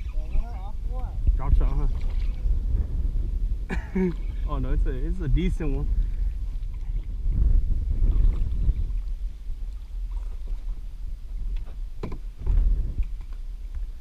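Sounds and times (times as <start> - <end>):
low wind rumble: 0.0 - 14.0
microphone handling noise: 1.1 - 10.7, 11.4 - 13.9.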